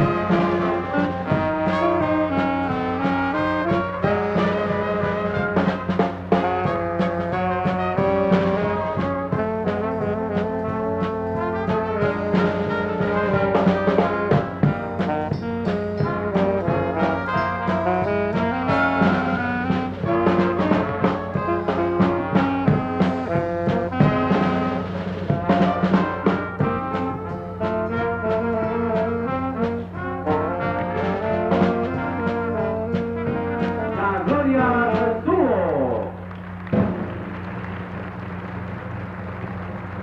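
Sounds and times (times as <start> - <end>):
steady drum beat: 0.0 - 38.9
brass band music: 0.0 - 40.0.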